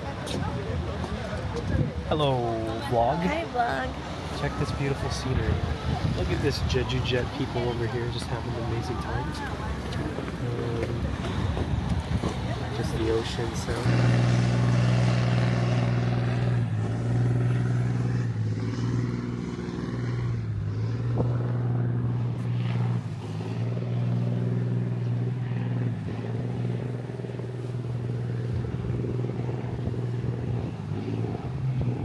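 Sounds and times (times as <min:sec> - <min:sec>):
motor engine humming: 0:00.0 - 0:32.0.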